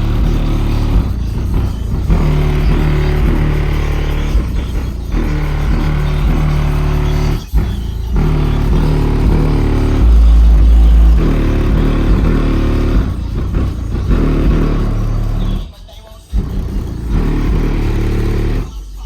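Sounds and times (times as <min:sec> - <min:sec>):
heavy bass boom: 0:00.0 - 0:15.7, 0:16.4 - 0:18.8
bass-heavy music through car speakers: 0:00.0 - 0:19.0.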